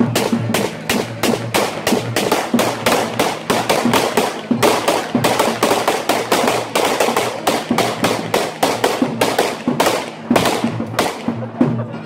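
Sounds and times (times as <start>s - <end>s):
firecrackers cracking: 0.0s - 11.6s.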